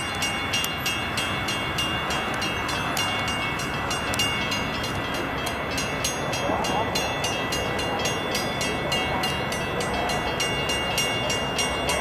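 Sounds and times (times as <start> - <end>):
railroad warning bell ringing: 0.0 - 12.0.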